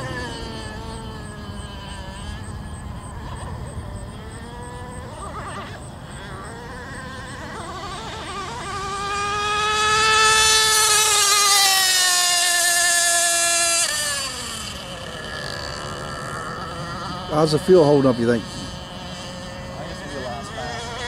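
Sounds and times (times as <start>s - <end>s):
model boat engine whine: 0.0s - 21.0s.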